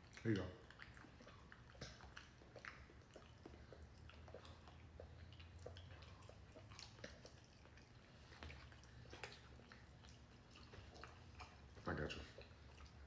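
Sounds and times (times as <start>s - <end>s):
faint chewing mouth smacks: 0.0s - 13.0s.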